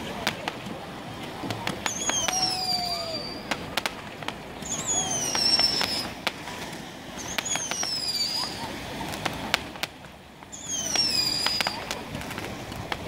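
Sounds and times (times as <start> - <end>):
firework pops and cracks: 0.0 - 0.8, 1.4 - 13.0
firework whistles: 1.5 - 13.0.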